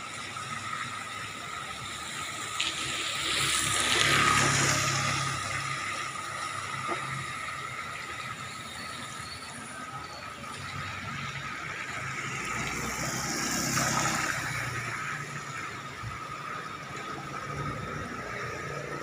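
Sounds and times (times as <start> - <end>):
motorbike riding through water: 0.0 - 19.0
water running and splashing: 0.0 - 19.0.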